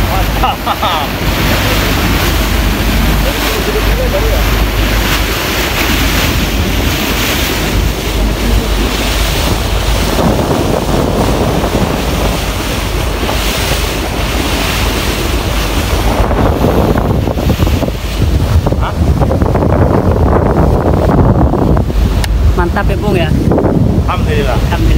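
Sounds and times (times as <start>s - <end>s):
sea water splashing around boat: 0.0s - 24.9s
wind buffeting microphone: 0.0s - 24.9s.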